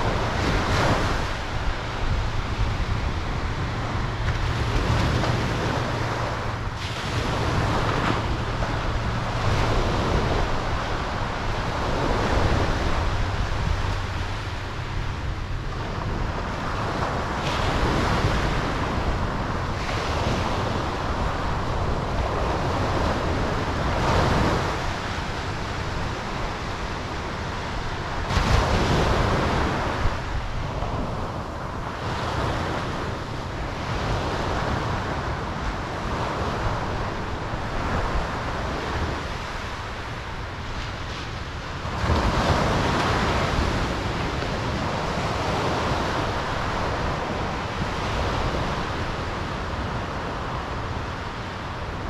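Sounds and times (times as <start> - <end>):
ocean surf washing in: 0.0 - 52.0
waves breaking: 0.0 - 52.0.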